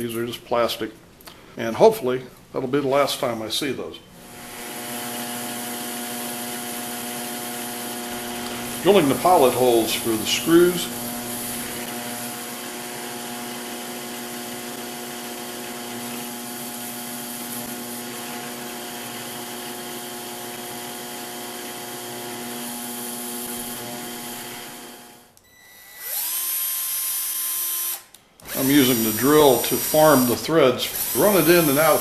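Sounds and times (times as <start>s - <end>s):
cordless drill whine: 4.2s - 32.0s
drill press motor hum: 4.3s - 32.0s.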